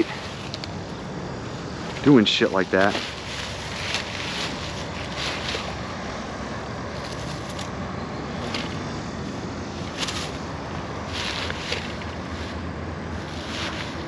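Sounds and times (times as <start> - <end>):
highway traffic hum: 0.0 - 14.0.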